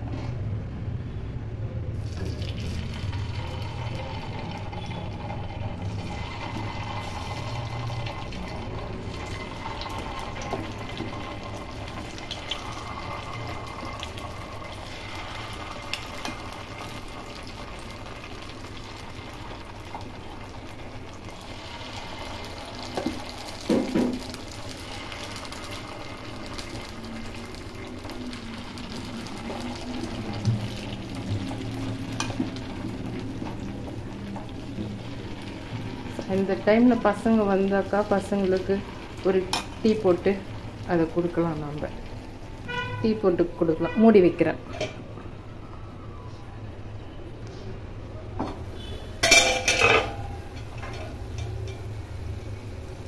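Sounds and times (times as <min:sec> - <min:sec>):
oil sizzling in a pan: 0:02.0 - 0:43.6, 0:48.4 - 0:53.0.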